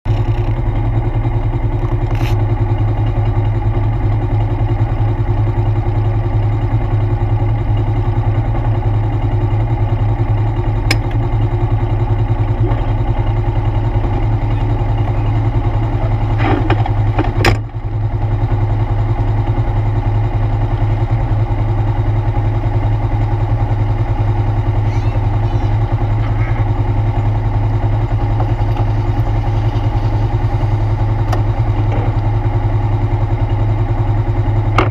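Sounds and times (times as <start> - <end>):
atv engine droning: 0.1 - 34.9.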